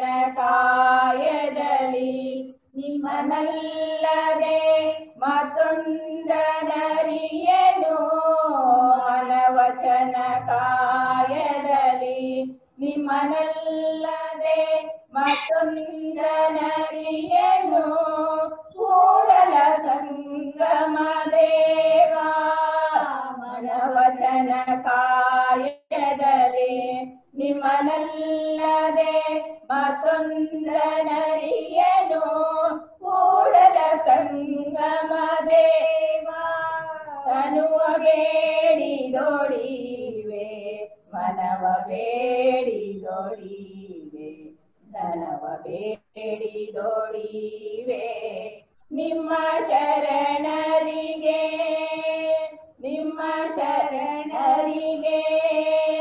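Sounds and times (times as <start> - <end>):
women singing together: 0.0 - 56.0.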